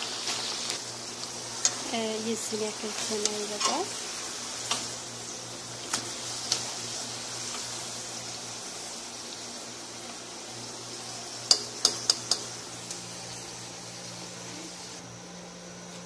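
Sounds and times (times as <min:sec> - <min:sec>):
eggplant sizzling in oil: 0:00.0 - 0:15.0.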